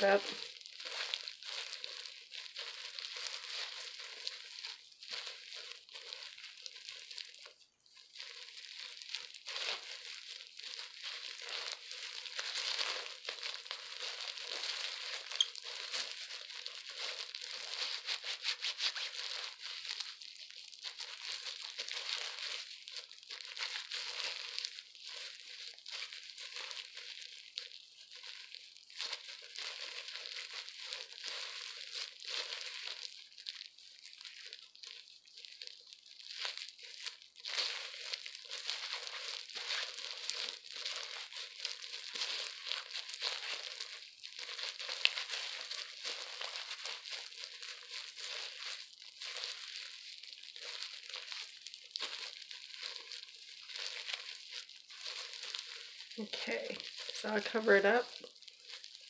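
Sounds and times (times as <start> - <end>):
plastic gloves rubbing wet hair: 0.0 - 59.0.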